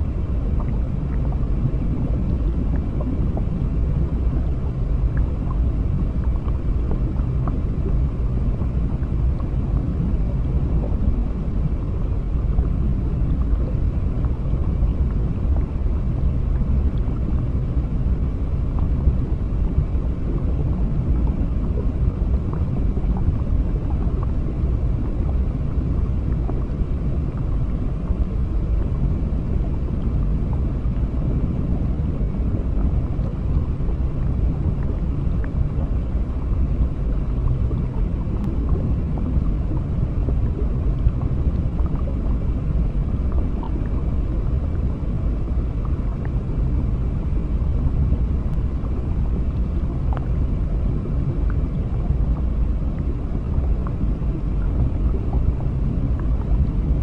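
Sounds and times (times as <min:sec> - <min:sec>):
underwater aquarium rumble: 0:00.0 - 0:57.0.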